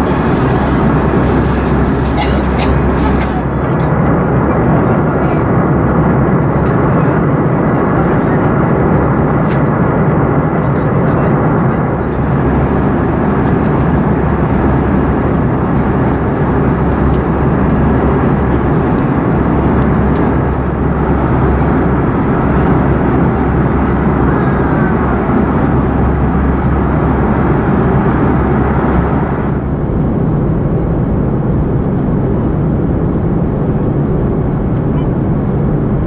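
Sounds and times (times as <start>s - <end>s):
airplane cabin roar: 0.0s - 36.0s.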